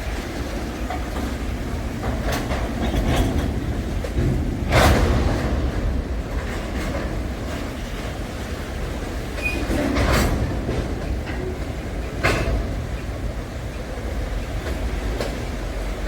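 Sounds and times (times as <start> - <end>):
train wheels rumbling on rail: 0.0 - 16.0
wheels clacking over rail joint: 0.0 - 16.0.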